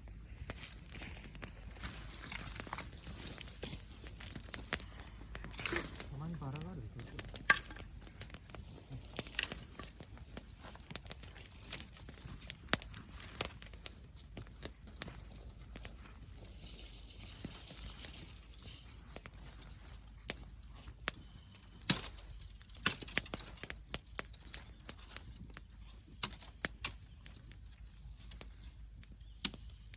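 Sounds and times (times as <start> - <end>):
twigs crackling and snapping: 0.0 - 29.9.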